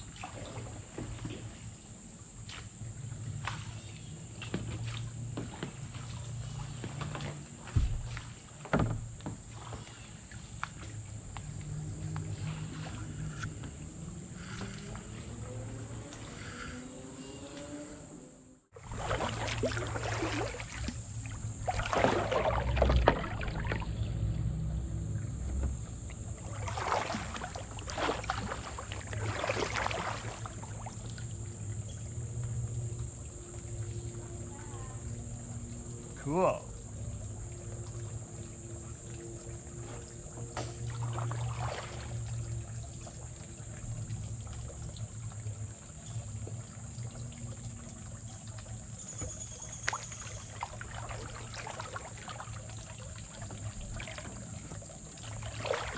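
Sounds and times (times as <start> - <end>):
paddle strokes splashing in water: 0.0 - 17.9, 18.7 - 55.9.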